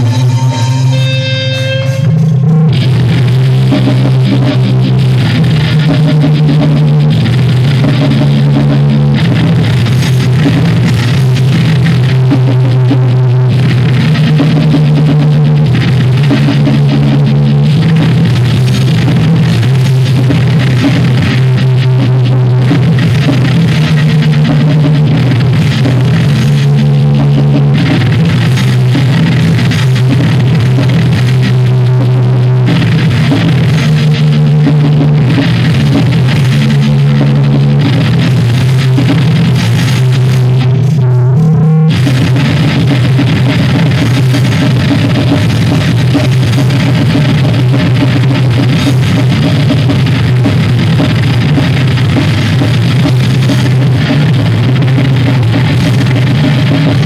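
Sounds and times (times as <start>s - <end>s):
distorted electric guitar: 0.0s - 57.0s
drum kit: 0.0s - 57.0s
electric bass: 0.0s - 57.0s.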